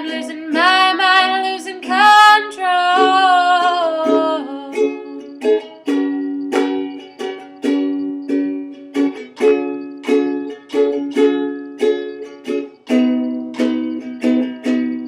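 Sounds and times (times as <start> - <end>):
ukulele strumming chords: 0.0 - 15.0.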